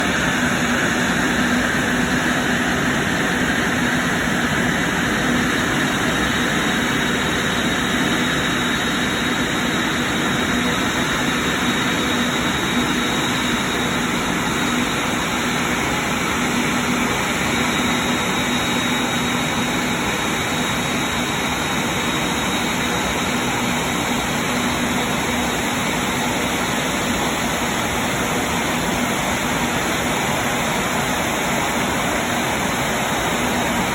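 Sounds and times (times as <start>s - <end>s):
faint high whine: 0.0s - 33.9s
jet engine roar: 0.0s - 33.9s.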